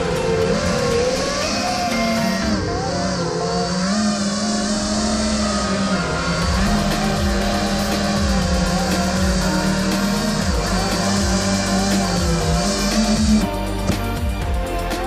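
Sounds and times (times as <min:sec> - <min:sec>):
background music with steady beat: 0:00.0 - 0:15.0
drone motors whining: 0:00.0 - 0:15.0.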